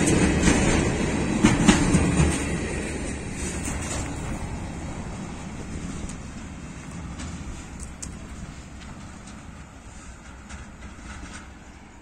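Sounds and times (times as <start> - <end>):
freight train wagons rumbling: 0.0 - 12.0
train wheel clacks: 0.0 - 12.0.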